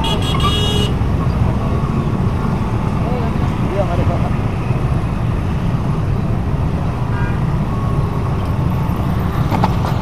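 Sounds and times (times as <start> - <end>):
traffic rumble of small engines: 0.0 - 10.0.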